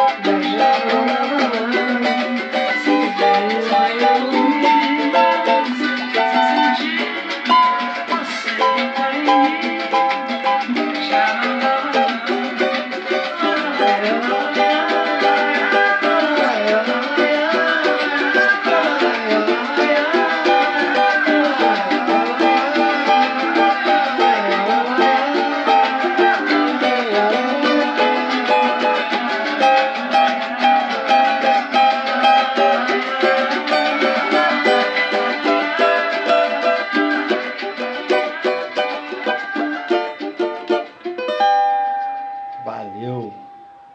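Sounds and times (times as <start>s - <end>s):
cavaquinho plucked: 0.0s - 43.9s.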